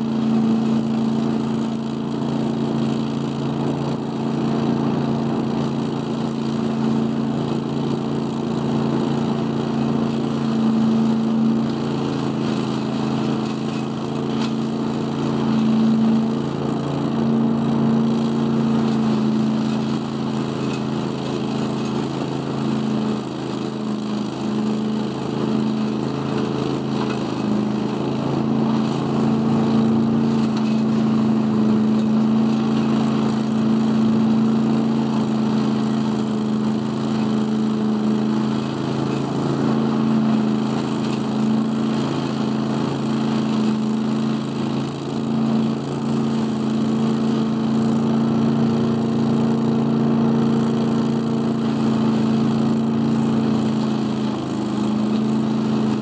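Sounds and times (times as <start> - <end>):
leaf vacuum engine running: 0.0 - 56.0.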